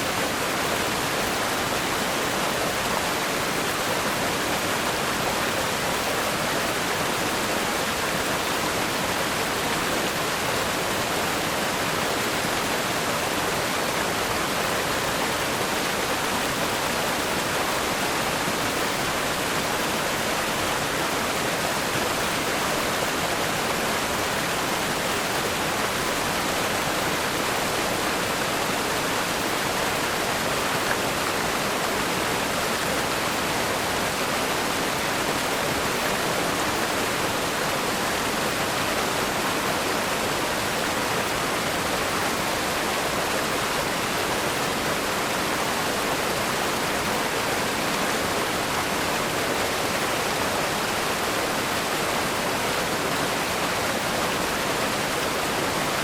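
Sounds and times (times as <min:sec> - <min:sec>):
river rapids rushing over rocks: 0:00.0 - 0:56.0.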